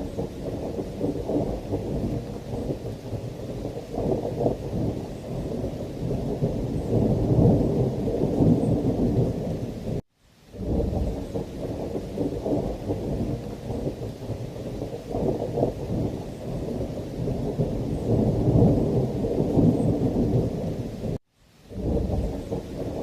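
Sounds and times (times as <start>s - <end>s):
thunder rumbling: 0.0s - 10.0s, 10.6s - 23.0s
heavy rain: 0.0s - 23.0s.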